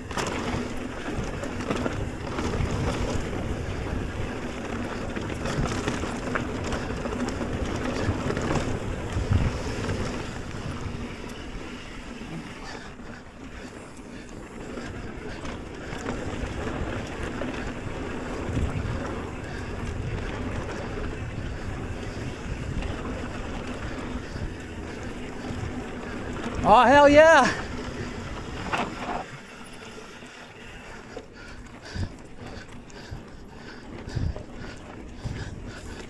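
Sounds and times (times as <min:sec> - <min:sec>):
wind buffeting microphone: 0:00.0 - 0:29.3, 0:30.3 - 0:36.0
bike tyre and frame rumble: 0:00.0 - 0:36.0.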